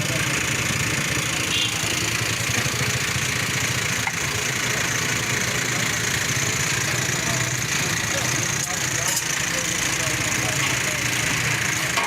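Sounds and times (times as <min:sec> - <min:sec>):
engine running with pulsing hum: 0:00.0 - 0:12.0.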